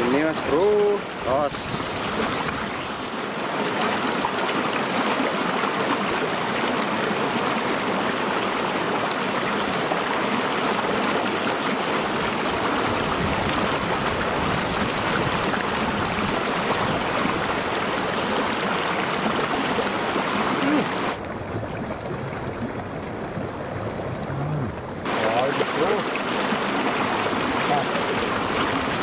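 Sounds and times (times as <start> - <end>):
river water splashing over stones: 0.0 - 29.0.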